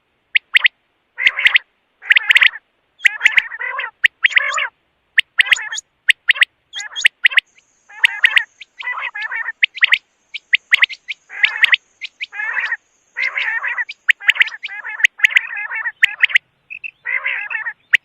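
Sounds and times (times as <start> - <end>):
quail calling: 0.3 - 18.0.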